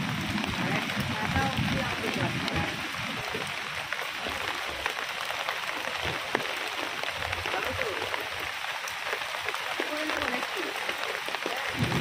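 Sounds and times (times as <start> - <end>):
heavy rain hissing: 0.0 - 12.0
water drips: 0.0 - 12.0.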